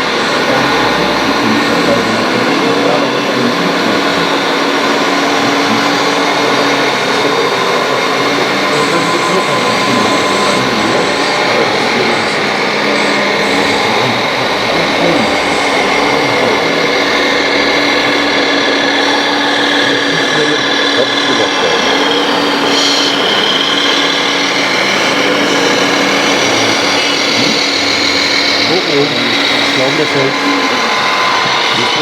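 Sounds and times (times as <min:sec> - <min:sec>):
electric hydraulic pumps whining: 0:00.0 - 0:32.0.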